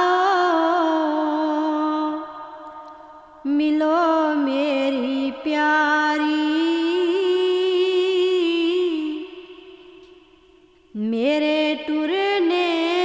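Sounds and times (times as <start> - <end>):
woman singing devotional song: 0.0 - 13.0.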